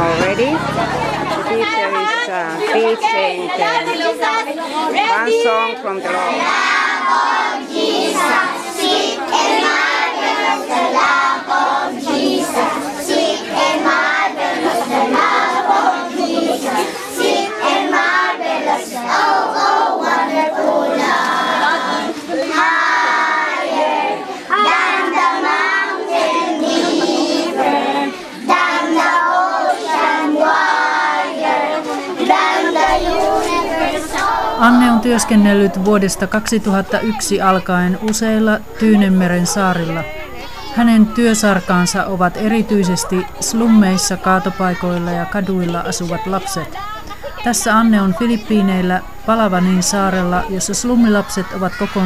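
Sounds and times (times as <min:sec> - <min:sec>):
children singing a worship song: 0:00.0 - 0:48.7.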